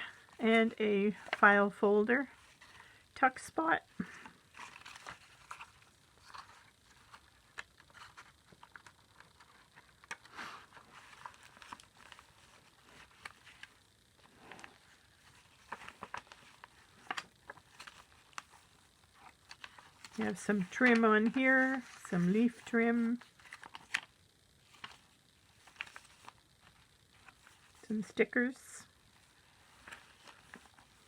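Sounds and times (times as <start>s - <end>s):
paper rustling and crinkling: 4.0s - 27.9s, 29.1s - 31.0s.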